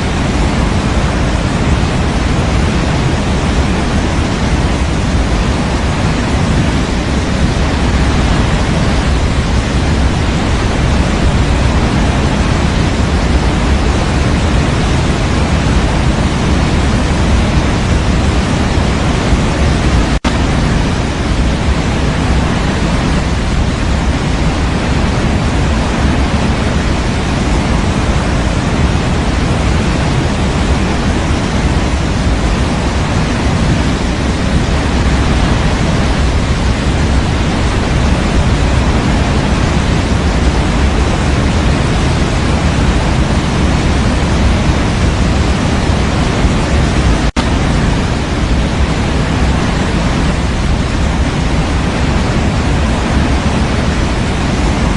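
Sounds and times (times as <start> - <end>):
steady white noise hiss: 0.0 - 54.9.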